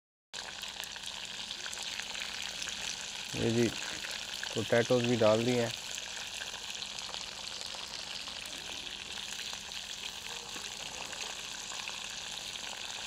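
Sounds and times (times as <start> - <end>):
meat and potatoes sizzling in oil: 0.4 - 13.0.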